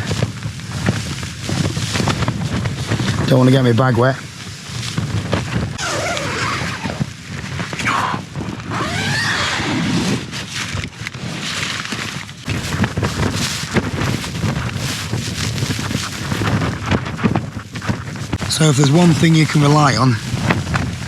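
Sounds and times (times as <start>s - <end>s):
strong wind buffeting a tent: 0.0s - 21.0s
tent fabric flapping: 0.0s - 21.0s.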